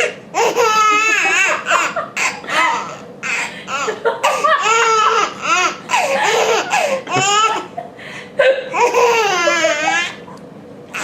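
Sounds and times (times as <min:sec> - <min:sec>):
baby laughing: 0:00.4 - 0:07.8, 0:08.6 - 0:10.2.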